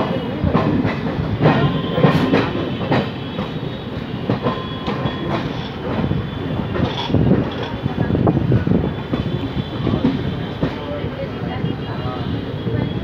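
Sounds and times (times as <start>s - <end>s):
wheels clacking over rail joints: 0.0s - 11.2s
train wheels rumbling on track: 0.0s - 13.0s.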